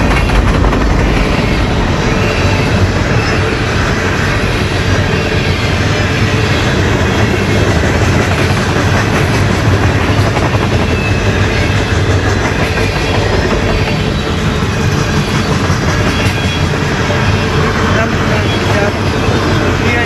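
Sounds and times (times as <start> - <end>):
train wheels rumbling on rail: 0.0 - 20.0
wheels clicking over rail joints: 0.0 - 20.0.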